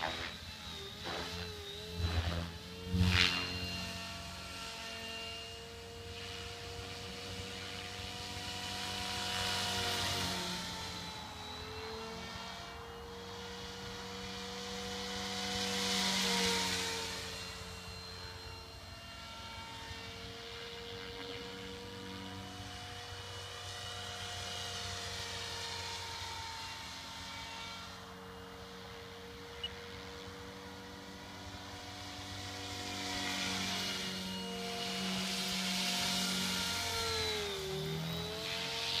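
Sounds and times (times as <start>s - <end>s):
rc helicopter rotor hum: 0.0s - 39.0s.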